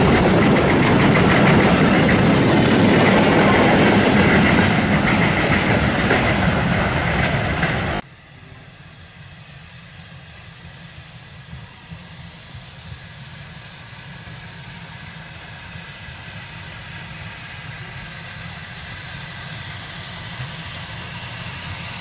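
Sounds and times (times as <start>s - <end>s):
steam locomotive rumble and hiss: 0.0s - 22.0s.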